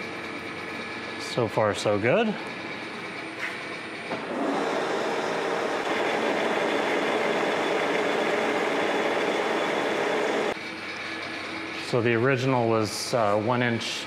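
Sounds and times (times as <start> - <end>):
metal lathe cutting steel: 0.0 - 14.0.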